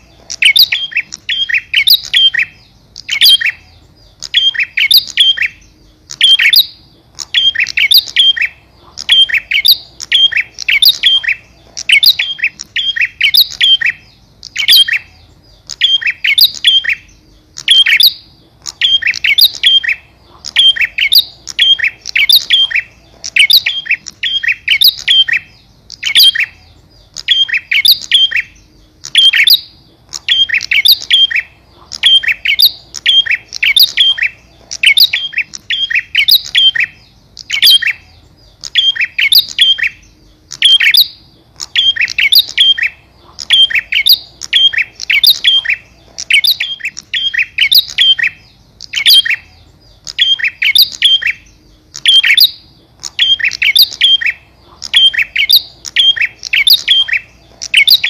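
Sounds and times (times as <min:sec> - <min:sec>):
bird sharp high chirps: 0:00.0 - 0:58.0.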